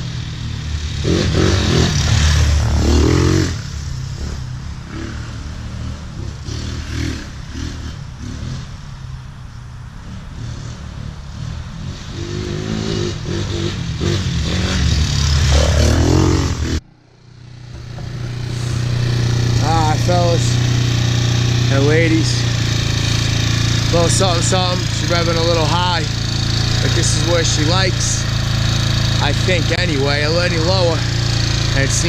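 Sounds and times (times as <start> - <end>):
quad bike engine revving: 0.0 - 8.7, 10.0 - 32.0.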